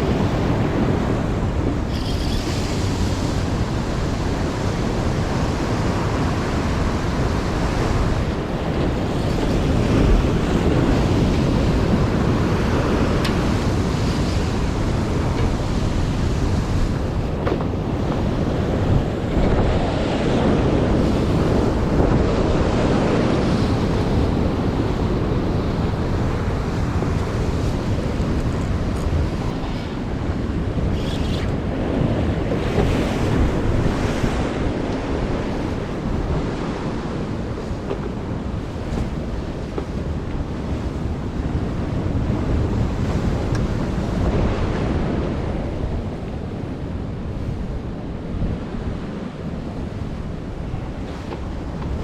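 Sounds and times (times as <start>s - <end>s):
waves breaking on shore: 0.0s - 52.0s
wind blowing over microphone: 0.0s - 52.0s.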